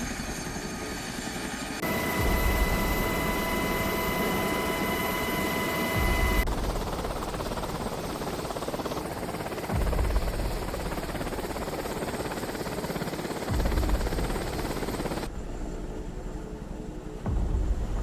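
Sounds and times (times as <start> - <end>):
helicopter rotor chop: 0.0 - 15.3.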